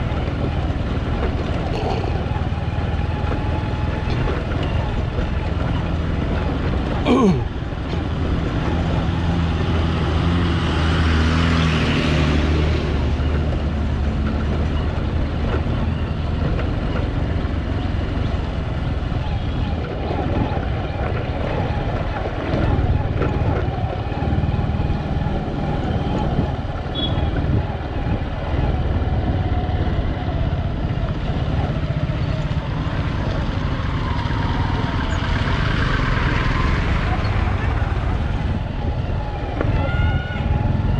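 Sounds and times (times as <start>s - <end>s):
tyre and wind noise: 0.0s - 40.9s
vehicle engine drone: 0.0s - 40.9s.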